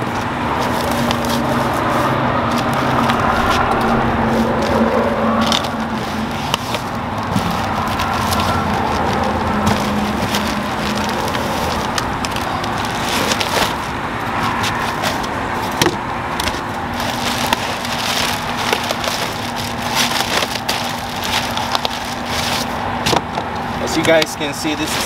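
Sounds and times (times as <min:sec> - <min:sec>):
plastic wrapping crinkling: 0:00.0 - 0:22.8.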